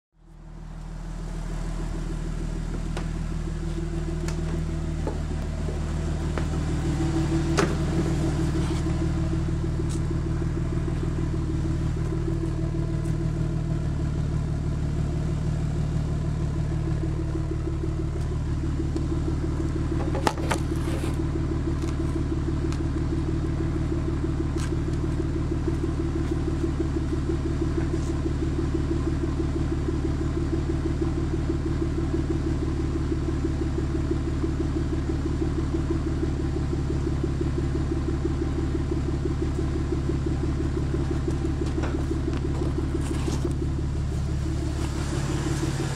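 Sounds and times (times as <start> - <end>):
car engine idling: 0.2 - 45.9.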